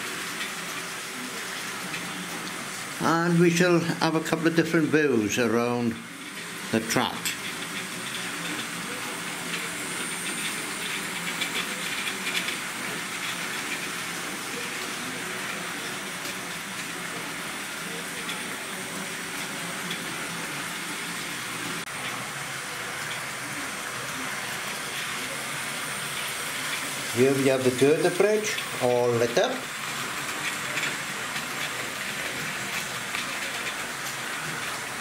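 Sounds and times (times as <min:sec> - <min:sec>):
model train motors whirring: 0:00.0 - 0:35.0
wheels rattling over rails: 0:00.0 - 0:35.0.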